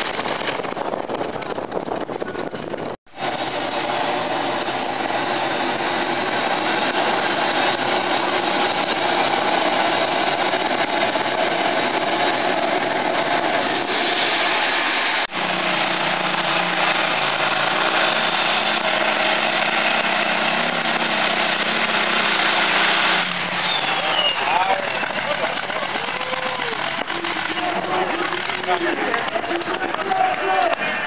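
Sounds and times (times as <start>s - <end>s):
tractor engines running loud: 0.0s - 31.0s.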